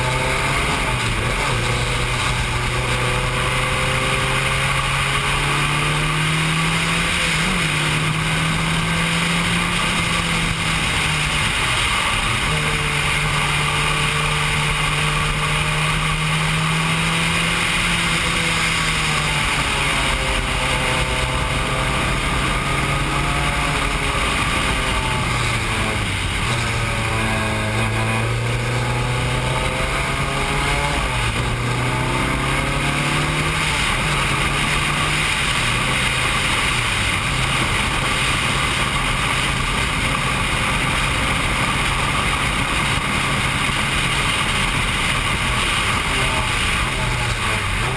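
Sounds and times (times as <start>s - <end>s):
racing car engine at speed: 0.0s - 47.9s.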